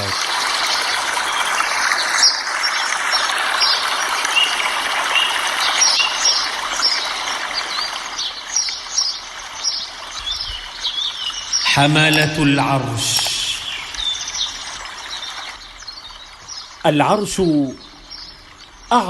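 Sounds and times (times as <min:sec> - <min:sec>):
small birds chirping: 0:00.0 - 0:19.0
stream water running: 0:00.0 - 0:19.0.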